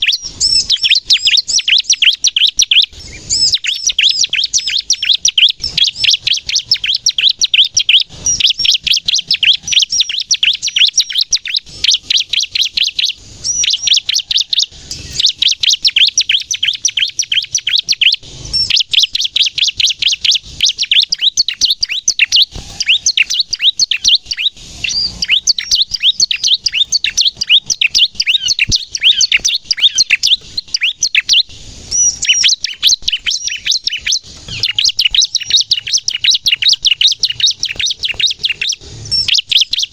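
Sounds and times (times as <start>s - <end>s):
bird rapid high chirping: 0.0s - 39.9s.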